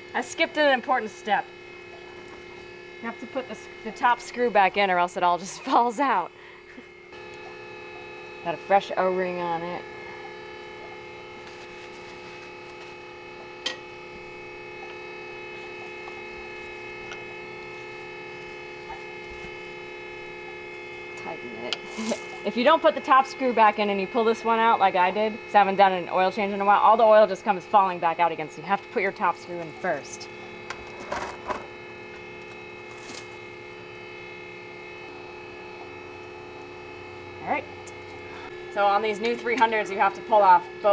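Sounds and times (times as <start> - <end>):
steady multi-tone hum: 0.0 - 40.9.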